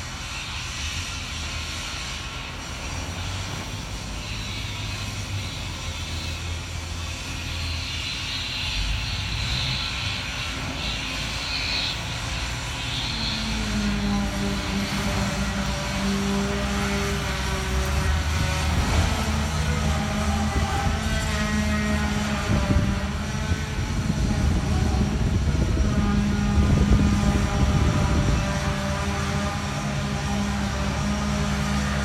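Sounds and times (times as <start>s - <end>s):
steady humming tone: 0.0s - 32.0s
hissing noise: 0.1s - 25.8s.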